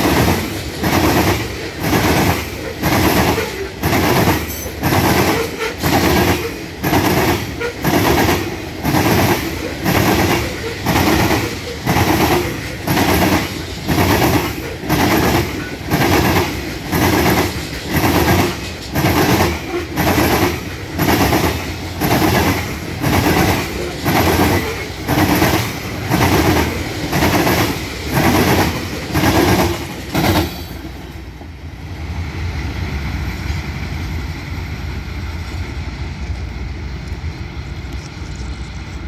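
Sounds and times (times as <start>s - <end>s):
train wheels clacking: 0.0s - 31.6s.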